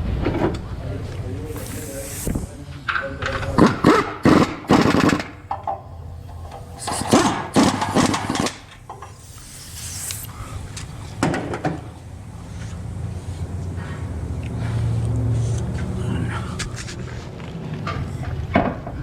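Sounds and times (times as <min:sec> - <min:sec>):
steady low hum: 0:00.4 - 0:02.9, 0:03.5 - 0:16.9.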